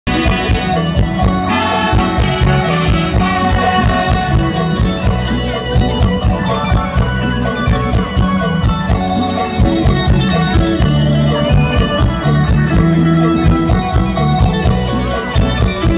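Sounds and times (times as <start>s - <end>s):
live band music over loudspeakers: 0.1s - 15.9s
steady drum beat: 0.1s - 15.9s.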